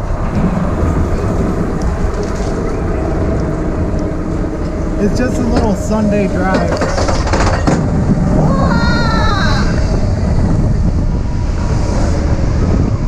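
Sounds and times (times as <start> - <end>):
roller coaster rumbling on track: 0.0 - 13.0
wind buffeting microphone: 0.0 - 13.0.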